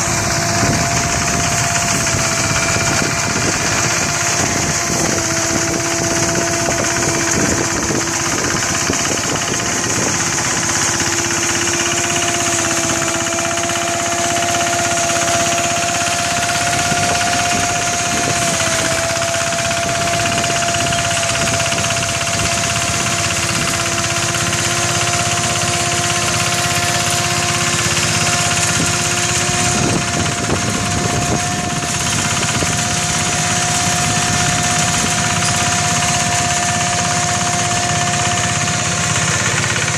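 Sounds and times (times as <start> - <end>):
machine rattle: 0.0 - 39.9
steady whining tone: 0.0 - 39.9
threshing machine engine drone: 0.0 - 39.9.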